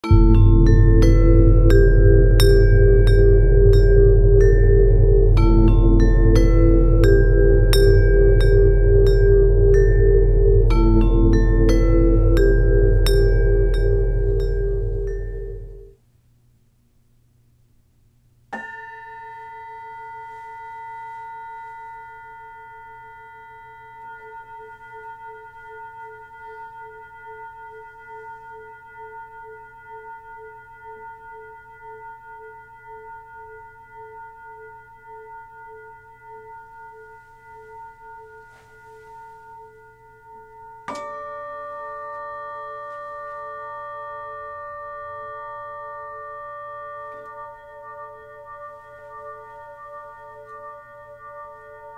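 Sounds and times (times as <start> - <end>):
bell-like metal percussion ringing: 0.0 - 16.0, 18.6 - 51.9
higher metal instrument ringing: 0.0 - 16.0, 18.6 - 51.9.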